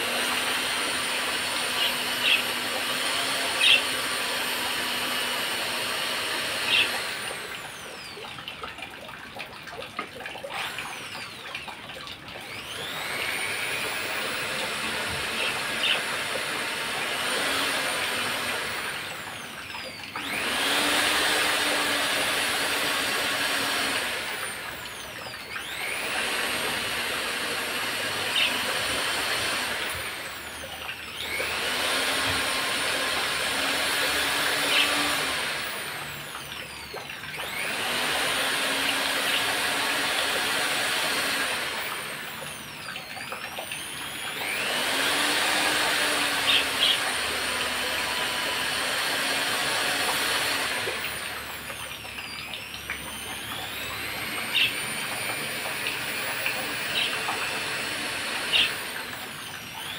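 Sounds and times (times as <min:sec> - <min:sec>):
electric drill motor whining: 0:00.0 - 0:08.6, 0:09.9 - 0:59.9.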